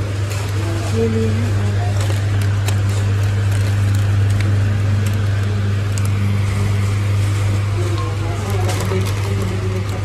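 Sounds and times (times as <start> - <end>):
steady low hum: 0.0 - 10.0
plastic packets crinkling: 0.1 - 10.0.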